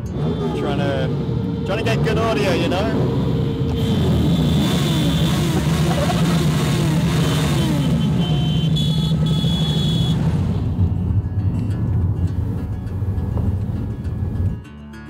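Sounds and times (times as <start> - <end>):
engine notes sliding down: 0.0 - 14.6
traffic engine drone: 0.0 - 14.8.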